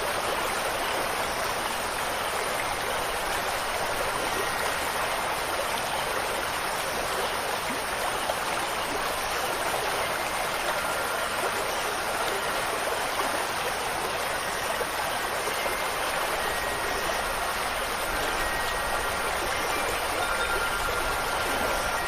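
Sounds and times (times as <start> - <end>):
flowing stream: 0.0 - 22.0
faint wind chime tones: 0.2 - 22.0.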